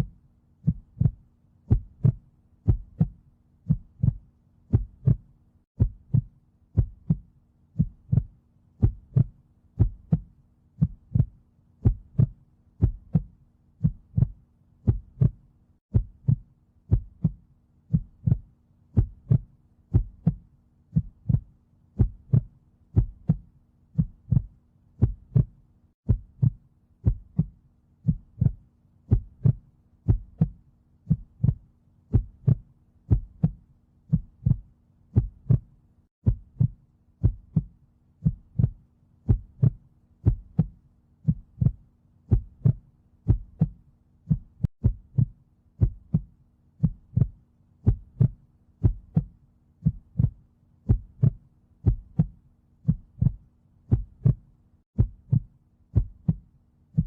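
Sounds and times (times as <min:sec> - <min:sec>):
heartbeat: 0:00.0 - 0:57.0.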